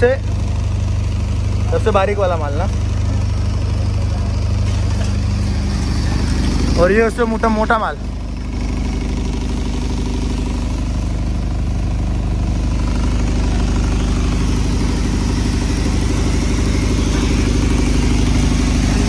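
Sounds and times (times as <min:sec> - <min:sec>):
salt grinding machine drone: 0:00.0 - 0:19.0.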